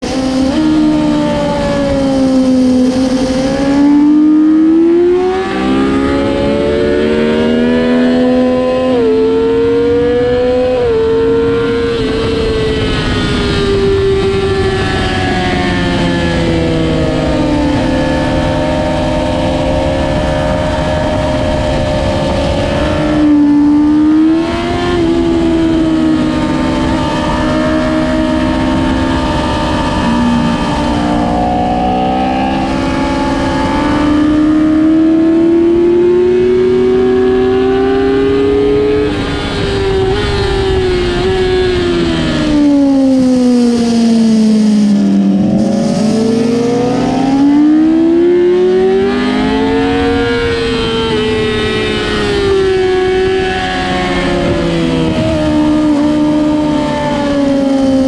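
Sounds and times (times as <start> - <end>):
motorcycle engine running hard: 0.0 - 58.0
steady rushing noise: 0.0 - 58.0.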